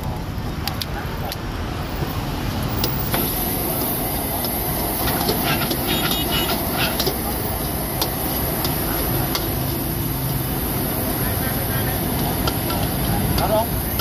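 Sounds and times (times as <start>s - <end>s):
gas burner rushing: 2.5s - 14.0s.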